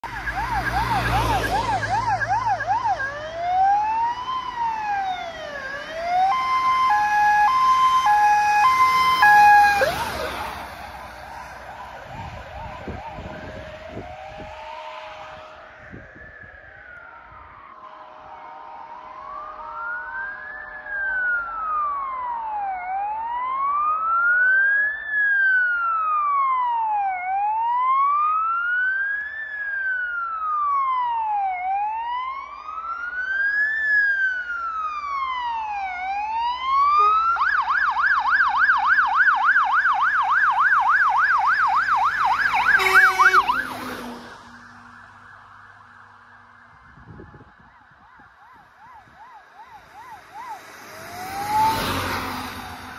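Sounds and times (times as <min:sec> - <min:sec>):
fire engine sirens: 0:00.0 - 0:52.9.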